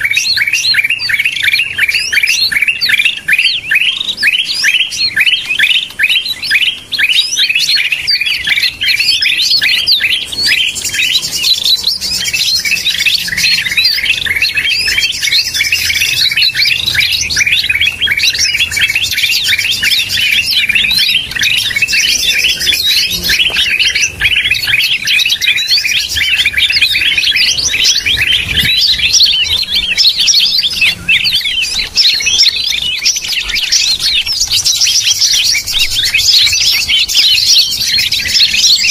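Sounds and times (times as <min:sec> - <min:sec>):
birds chirping rapidly: 0:00.0 - 0:38.9.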